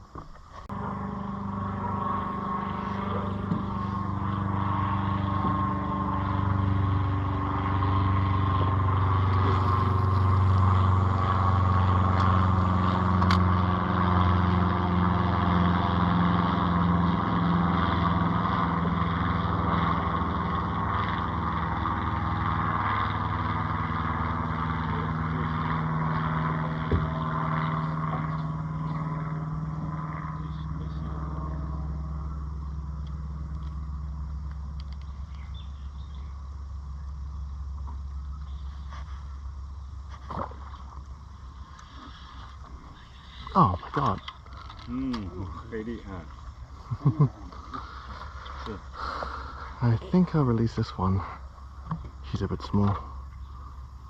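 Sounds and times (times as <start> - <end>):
motor engine drone: 0.0 - 54.0.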